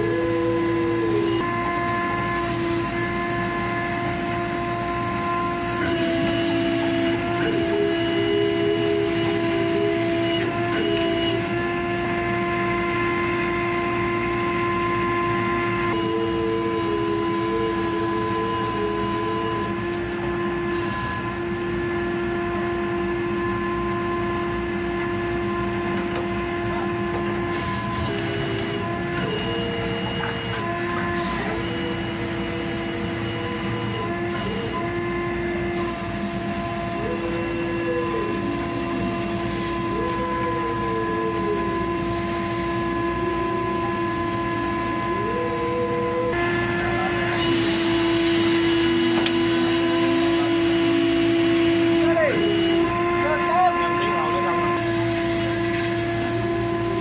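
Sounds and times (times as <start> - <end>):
dockside machinery hum: 0.0 - 57.0
high gliding whine: 0.0 - 57.0.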